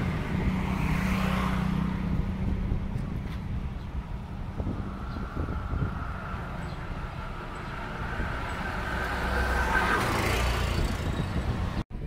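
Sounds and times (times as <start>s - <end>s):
auto-rickshaw engine passing by: 0.0s - 11.8s.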